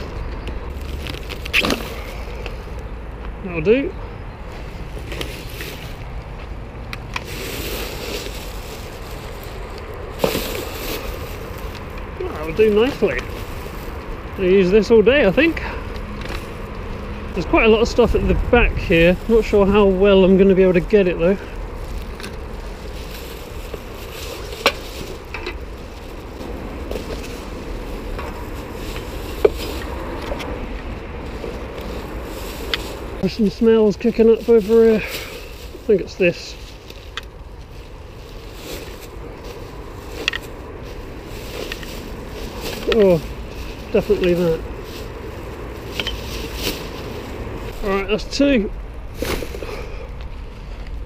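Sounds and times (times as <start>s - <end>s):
buggy wheels rumbling on tarmac: 0.0s - 51.0s
dry leaves crackling underfoot: 0.0s - 51.0s
plastic bag rustling: 0.7s - 2.7s, 4.8s - 47.9s.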